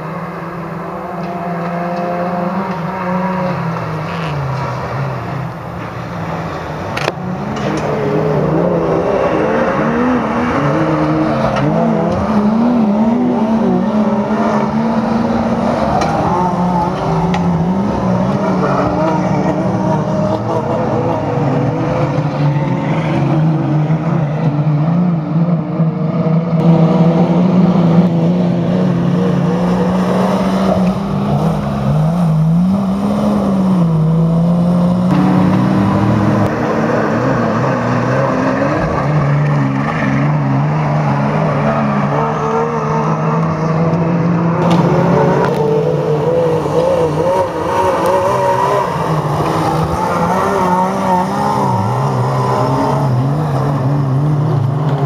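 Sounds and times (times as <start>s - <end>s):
truck engines revving: 0.0s - 55.0s.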